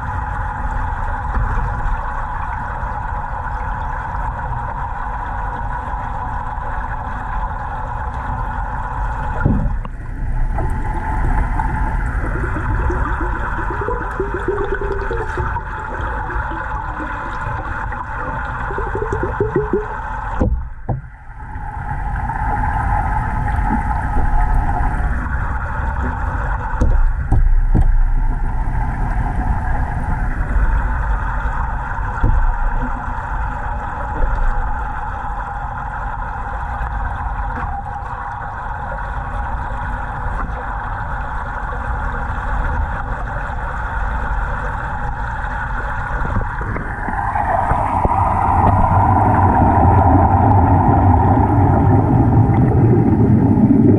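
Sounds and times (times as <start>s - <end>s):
rising air bubbles: 0.0s - 53.9s
underwater rush of aerated water: 0.0s - 53.9s.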